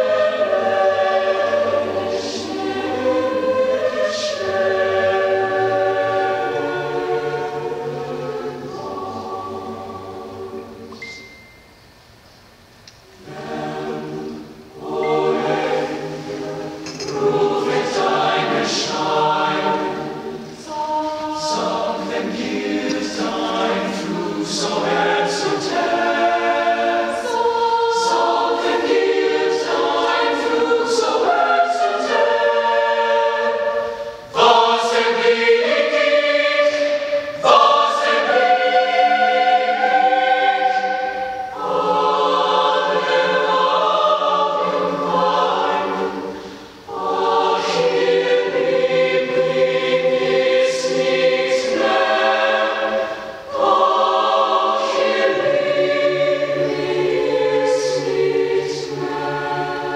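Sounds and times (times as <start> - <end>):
choir singing in harmony: 0.0 - 11.5, 12.5 - 59.9.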